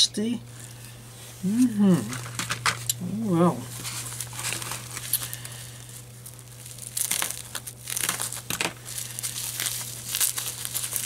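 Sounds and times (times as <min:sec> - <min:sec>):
steady low hum: 0:00.0 - 0:11.0
bubble wrap crinkling: 0:00.5 - 0:11.0.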